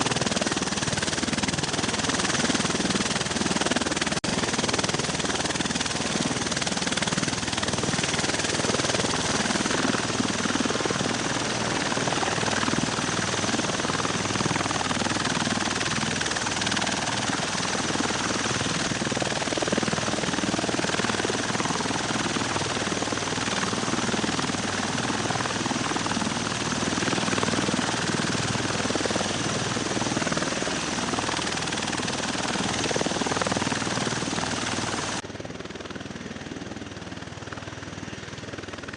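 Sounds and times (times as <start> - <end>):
tiltrotor aircraft rotor and turbine noise: 0.0 - 38.9.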